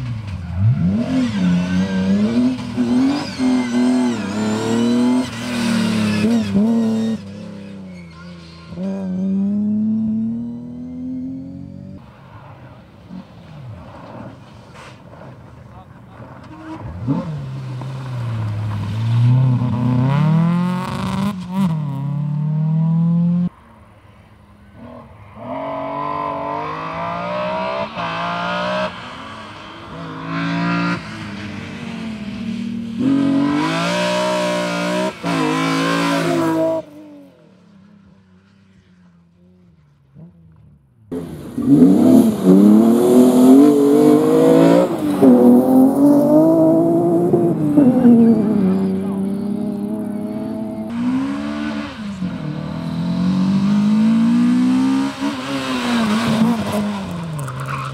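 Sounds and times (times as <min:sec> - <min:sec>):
rally car engines revving: 0:00.0 - 0:23.6, 0:24.6 - 0:57.9.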